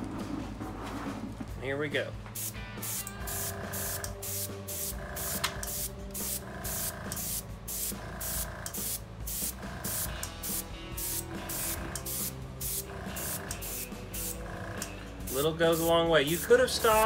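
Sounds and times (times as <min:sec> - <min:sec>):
background music: 0:00.0 - 0:17.0
airbrush spraying hiss: 0:02.4 - 0:14.4, 0:15.2 - 0:17.0.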